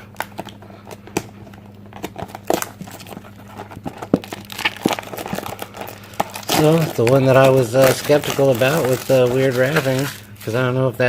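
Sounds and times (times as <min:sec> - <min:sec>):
plastic wrap crinkling and tearing: 0:00.0 - 0:10.7.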